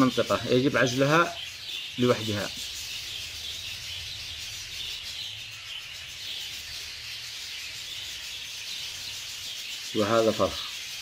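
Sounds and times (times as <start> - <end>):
budgerigars chattering: 0.0 - 11.0.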